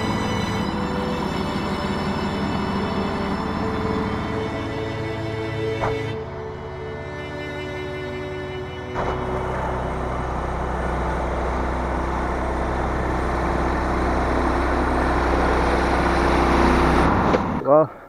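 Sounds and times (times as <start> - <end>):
bandsaw mill engine running: 0.0 - 17.6.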